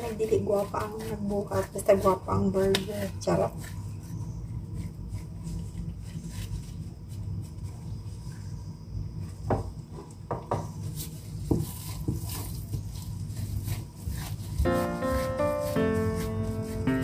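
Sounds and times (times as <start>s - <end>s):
meat squishing and patting: 0.0s - 7.9s, 10.8s - 16.8s.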